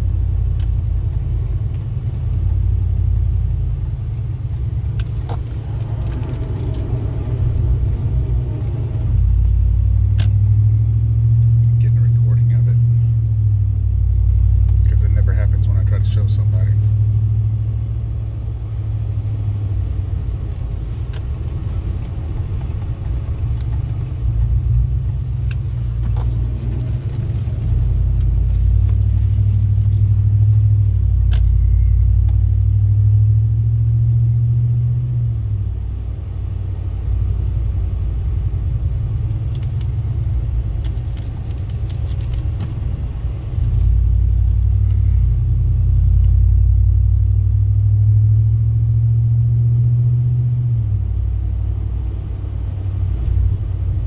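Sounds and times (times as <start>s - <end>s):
low grinding rumble in truck cab: 0.0s - 54.0s.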